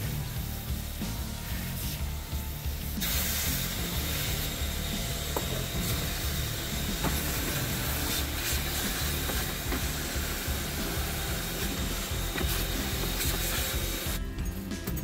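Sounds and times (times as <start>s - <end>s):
vacuum cleaner running: 0.0s - 14.3s.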